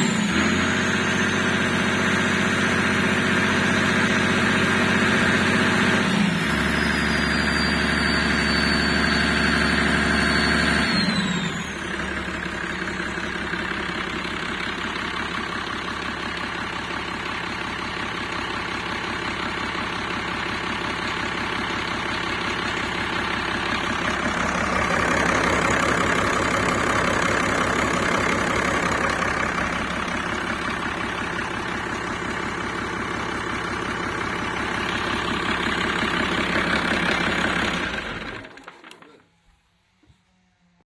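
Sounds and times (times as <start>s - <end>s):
marine diesel engine revving and idling: 0.0s - 38.5s.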